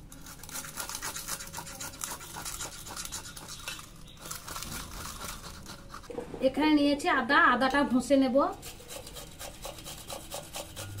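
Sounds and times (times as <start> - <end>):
mango scraping on metal grater: 0.0 - 6.2, 8.3 - 11.0.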